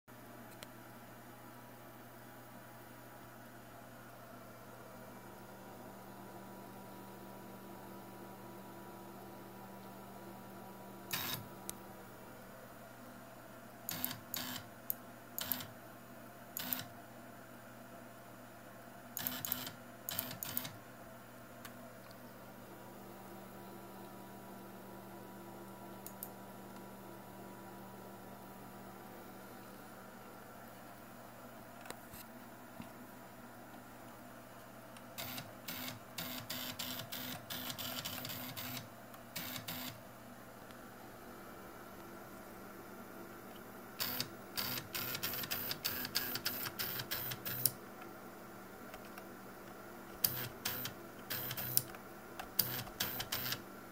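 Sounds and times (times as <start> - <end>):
steady low hum: 0.1 - 53.9.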